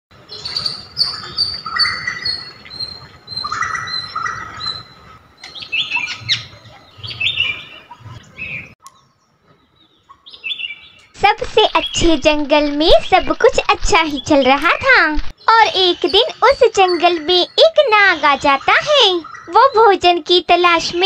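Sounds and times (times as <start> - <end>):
birds chirping and trilling: 0.2 - 21.0.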